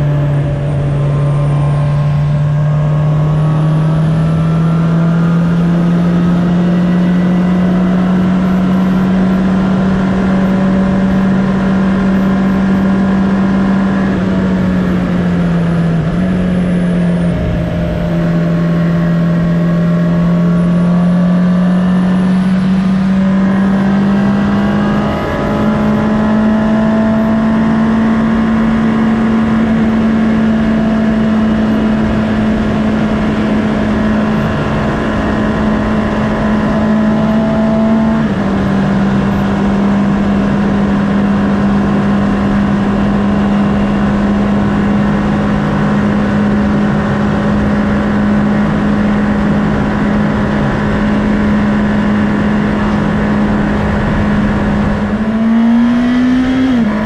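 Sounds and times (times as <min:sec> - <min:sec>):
wind noise: 0:00.0 - 0:21.0, 0:21.6 - 0:57.0
motorcycle engine cruising: 0:00.0 - 0:57.0.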